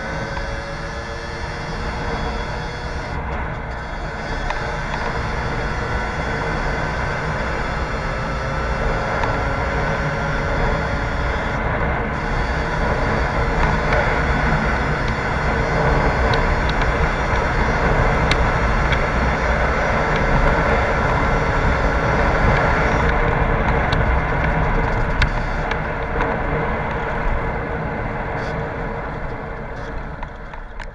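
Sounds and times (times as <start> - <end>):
two-stroke motorcycle engine: 0.0 - 30.9
wind and road noise: 0.0 - 30.9.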